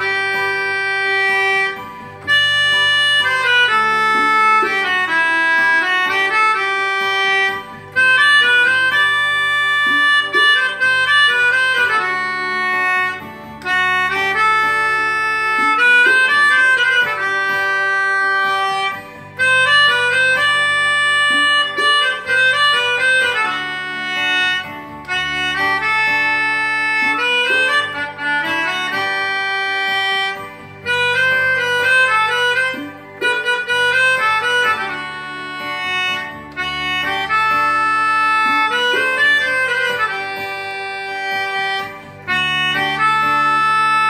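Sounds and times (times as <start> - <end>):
melodica melody: 0.0 - 44.0.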